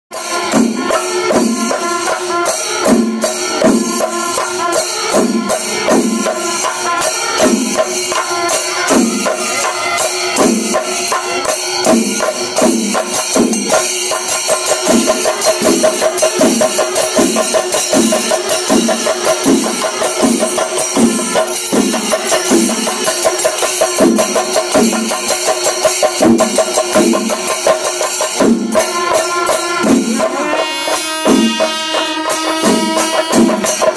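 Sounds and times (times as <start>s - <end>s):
drums beating: 0.1s - 33.9s
jingling hand percussion: 0.1s - 33.9s.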